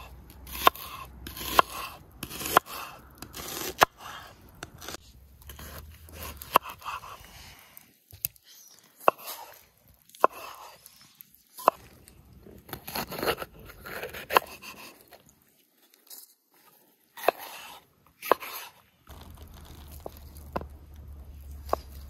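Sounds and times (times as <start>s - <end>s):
knife slicing vegetables: 0.0s - 7.5s, 9.0s - 15.2s, 17.2s - 22.0s
knife cutting cheese: 0.3s - 15.3s, 17.2s - 22.0s.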